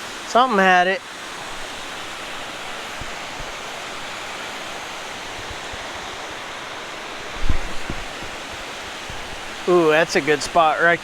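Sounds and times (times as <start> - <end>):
water rushing over spillway: 0.0 - 11.0.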